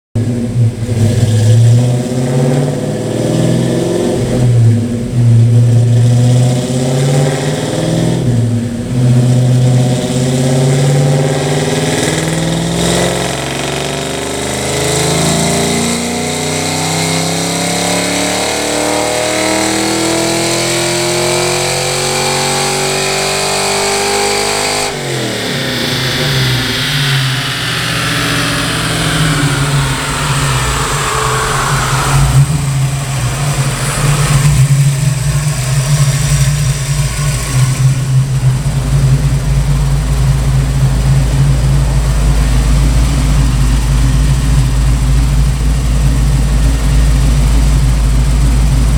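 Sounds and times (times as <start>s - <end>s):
car engine revving on dyno: 0.2s - 48.9s.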